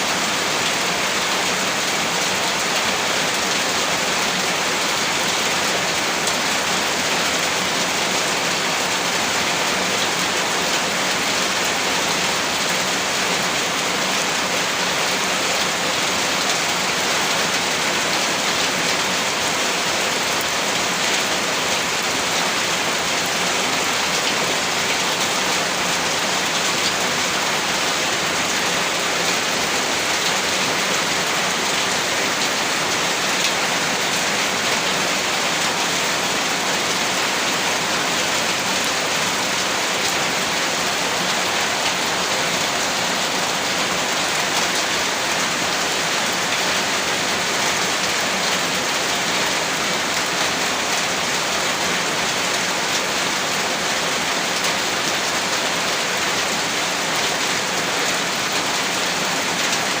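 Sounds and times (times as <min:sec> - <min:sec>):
heavy rain: 0:00.0 - 1:00.0.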